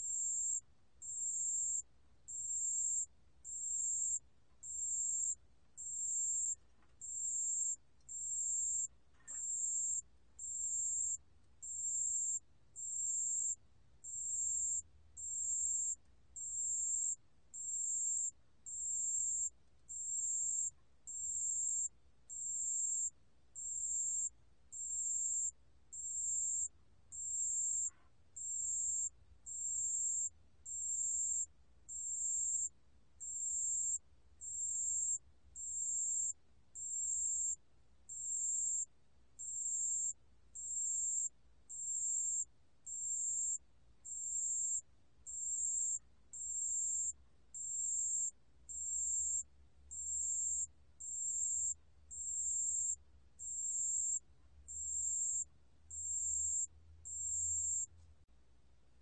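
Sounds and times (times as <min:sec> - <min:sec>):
cricket trilling: 0:00.0 - 0:57.9.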